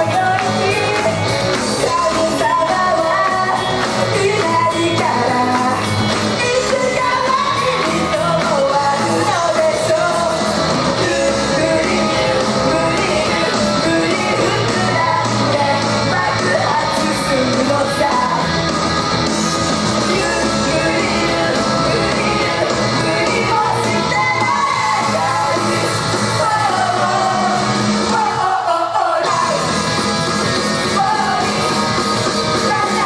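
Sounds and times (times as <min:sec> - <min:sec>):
women singing into microphones: 0:00.0 - 0:18.5, 0:20.0 - 0:29.7, 0:30.9 - 0:31.7, 0:32.4 - 0:33.0
loud rock backing music: 0:00.0 - 0:33.0.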